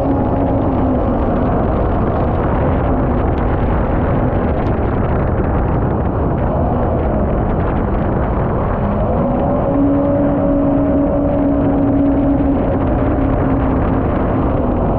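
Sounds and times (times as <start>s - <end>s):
boat engine running: 0.0s - 14.9s
rush of water and wind: 0.0s - 14.9s.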